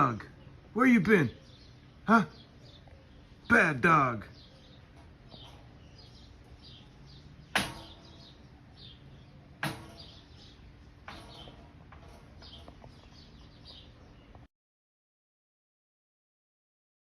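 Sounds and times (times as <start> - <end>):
high bird chirps: 0.3 - 14.5.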